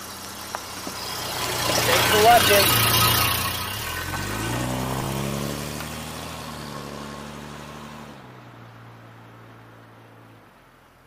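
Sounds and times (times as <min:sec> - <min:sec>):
car engine pulling away: 0:00.0 - 0:11.0.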